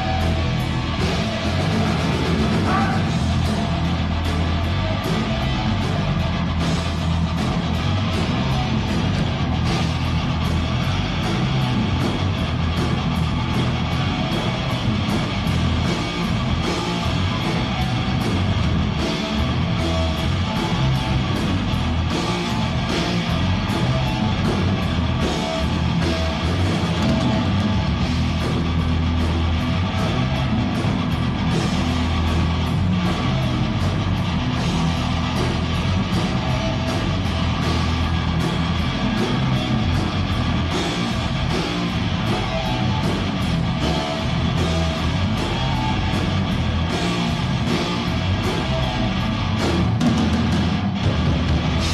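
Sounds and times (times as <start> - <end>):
heavy metal band playing: 0.0 - 51.9.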